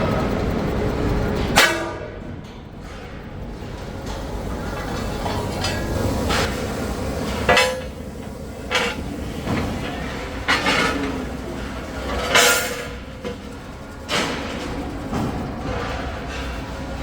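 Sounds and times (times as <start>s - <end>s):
heavy metal parts clanking: 1.4s - 17.0s.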